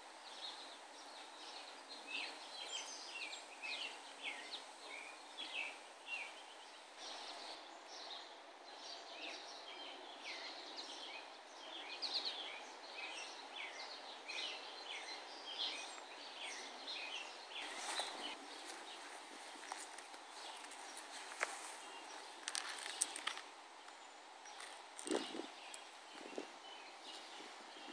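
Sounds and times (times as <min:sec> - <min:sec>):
outdoor background noise: 0:00.0 - 0:27.9
small birds chirping: 0:00.0 - 0:27.9.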